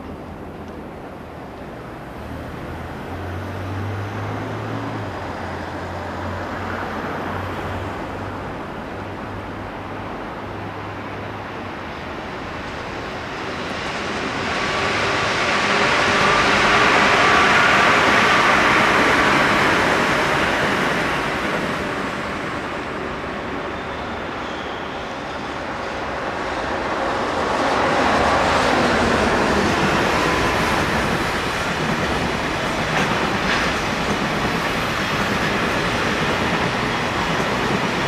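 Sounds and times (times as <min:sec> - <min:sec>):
electric train passing: 0:00.0 - 0:38.0.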